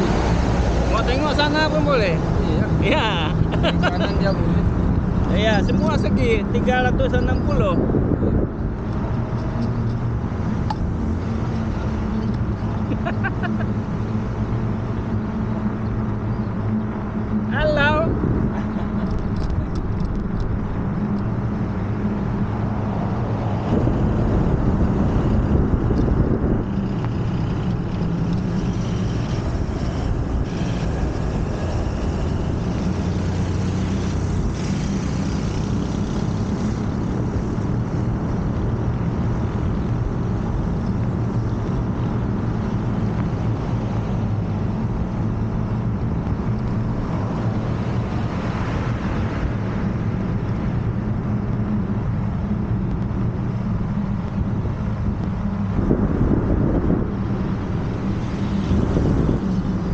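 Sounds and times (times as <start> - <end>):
wind on microphone: 0.0 - 59.9.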